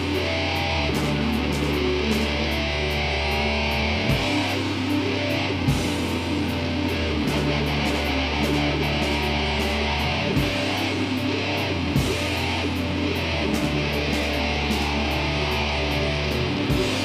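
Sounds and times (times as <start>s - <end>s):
rock band playing live: 0.0s - 17.0s
strummed electric guitars: 0.0s - 17.0s.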